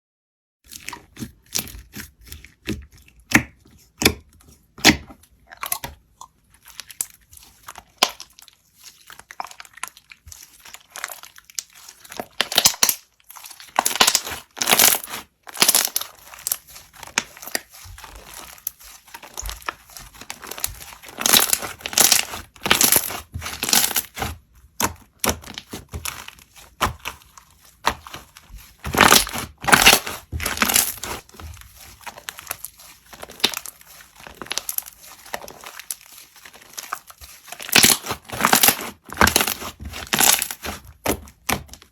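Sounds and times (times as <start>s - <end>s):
slime crackling and popping: 6.6s - 41.9s.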